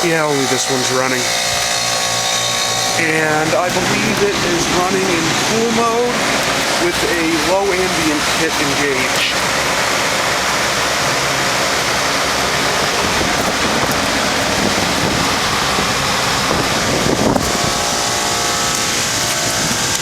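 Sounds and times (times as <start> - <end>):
heat pump fan air rush: 0.0 - 20.0
steady hum: 0.0 - 20.0.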